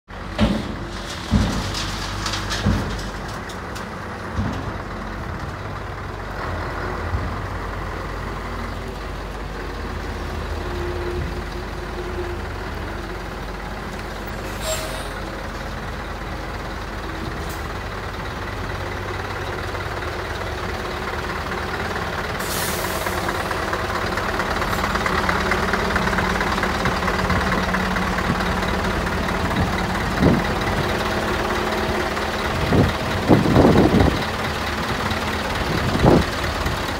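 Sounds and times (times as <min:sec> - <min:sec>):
diesel engine idling: 0:00.1 - 0:36.9.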